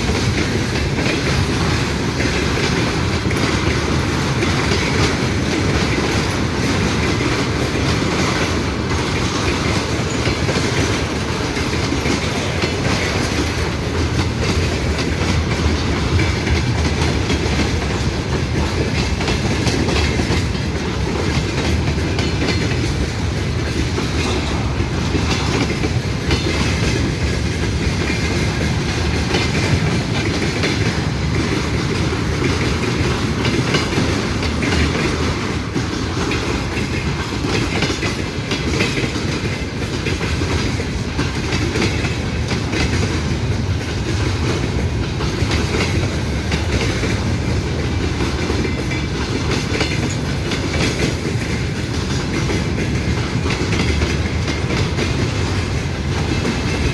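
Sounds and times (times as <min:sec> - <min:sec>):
railway wagons rumbling past: 0:00.0 - 0:56.9
wheels clicking over rail joints: 0:00.0 - 0:56.9.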